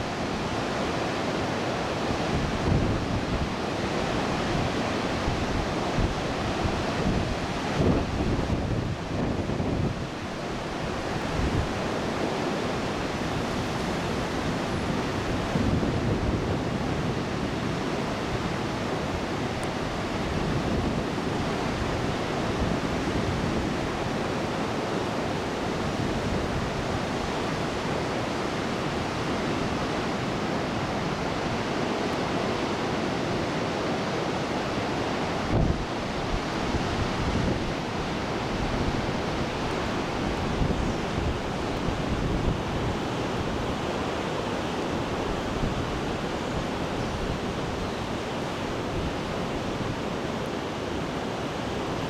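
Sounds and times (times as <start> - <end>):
waves breaking: 0.0 - 52.0
wind: 0.0 - 52.0
wind gusts buffeting microphone: 0.0 - 52.0.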